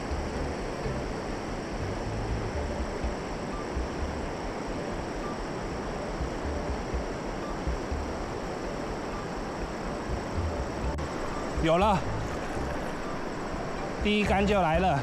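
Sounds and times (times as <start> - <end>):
stream water rushing: 0.0 - 15.0
wind rumbling on microphone: 0.0 - 15.0.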